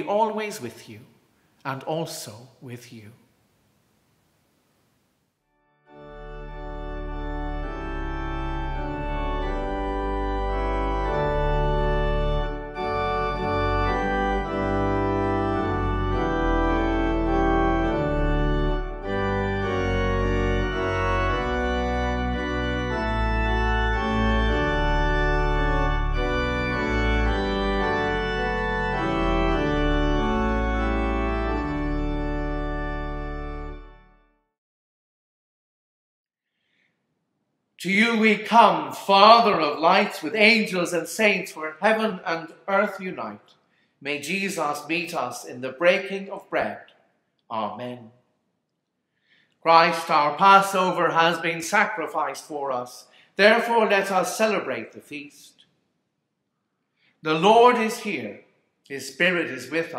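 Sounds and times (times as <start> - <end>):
organ music: 0.0 - 3.1, 5.5 - 34.5, 37.8 - 48.1, 49.6 - 55.6, 57.2 - 59.9.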